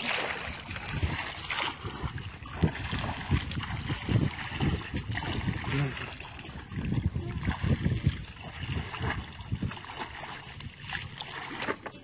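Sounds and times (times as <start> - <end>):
pond water sloshing and splashing: 0.0 - 12.0.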